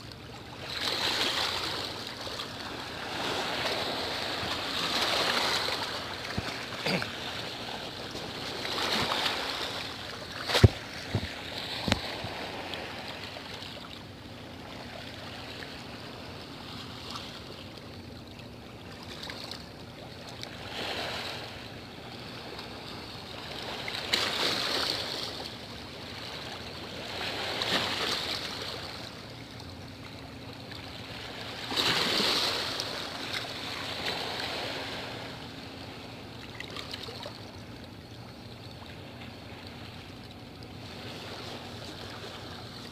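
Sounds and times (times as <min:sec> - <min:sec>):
sea waves washing ashore: 0:00.0 - 0:42.9.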